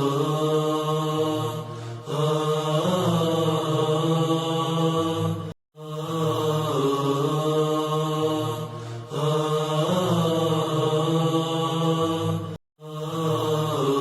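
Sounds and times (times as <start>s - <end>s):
devotional chant ringtone: 0.0s - 14.0s.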